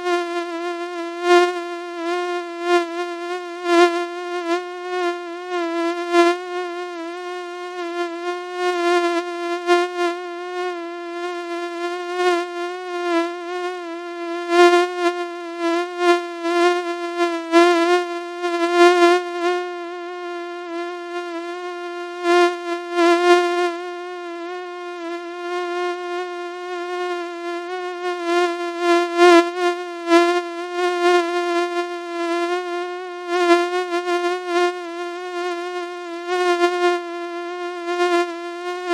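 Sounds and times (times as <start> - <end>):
mosquito buzzing: 0.0 - 38.9.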